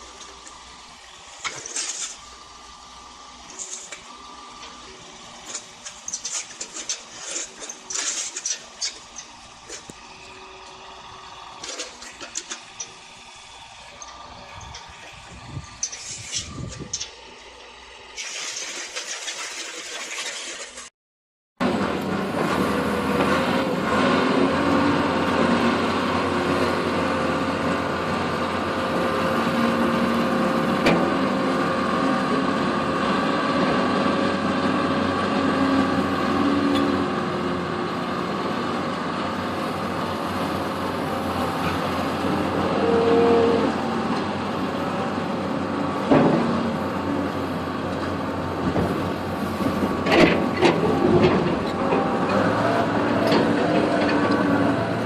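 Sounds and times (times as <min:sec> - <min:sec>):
heavy machine engine running: 0:00.0 - 0:19.4, 0:21.6 - 0:55.0.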